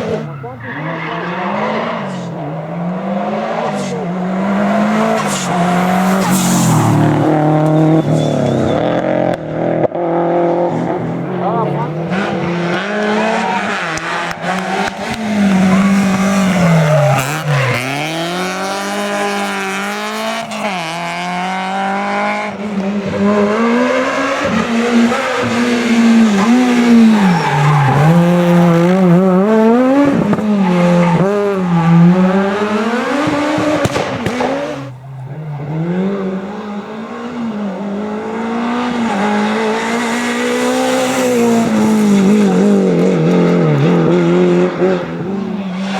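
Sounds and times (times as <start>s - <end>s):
rally car engines revving: 0.0s - 45.9s.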